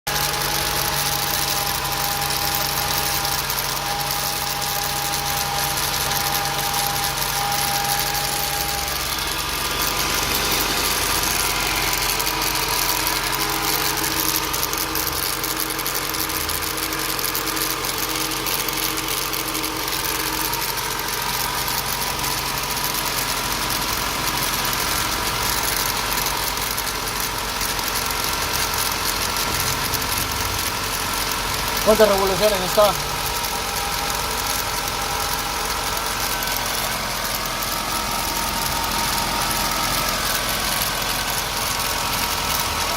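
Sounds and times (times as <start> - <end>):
engine idling with rattle: 0.0 - 42.9.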